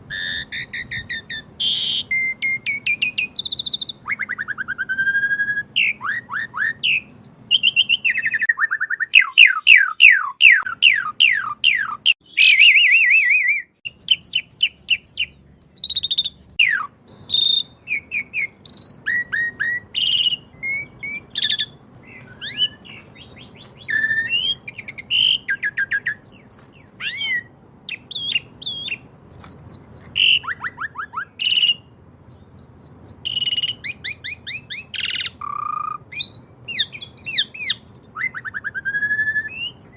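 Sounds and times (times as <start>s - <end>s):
starling singing: 0.1s - 39.9s.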